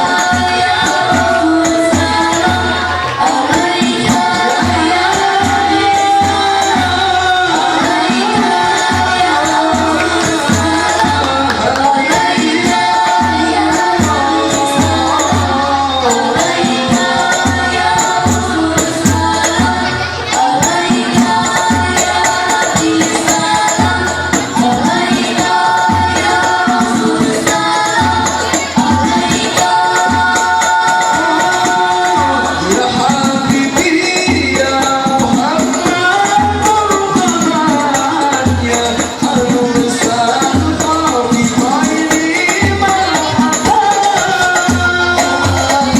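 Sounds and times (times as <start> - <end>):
frame drums beating: 0.0 - 45.9
jingling percussion: 0.0 - 45.9
voices singing devotional melody: 0.0 - 45.9.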